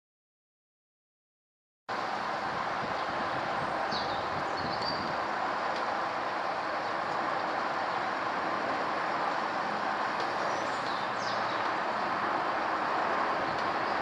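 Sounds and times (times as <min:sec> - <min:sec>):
jet rumble overhead: 0:01.9 - 0:14.0.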